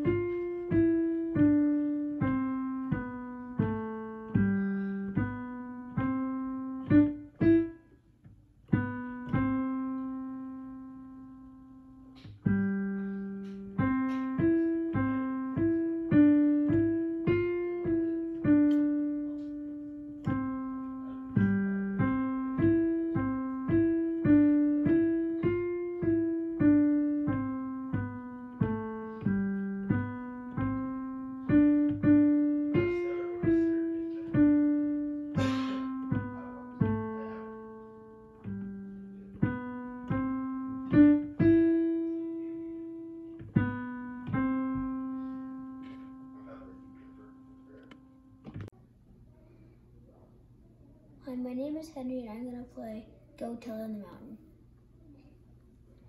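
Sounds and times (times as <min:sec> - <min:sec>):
slow piano melody: 0:00.0 - 0:49.4.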